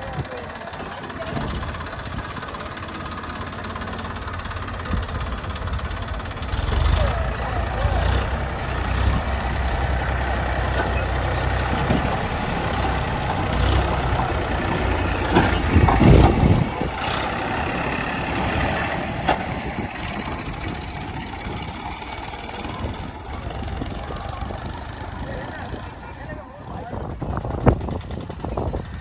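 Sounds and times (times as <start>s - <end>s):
heavy machinery diesel engine: 0.0s - 29.0s.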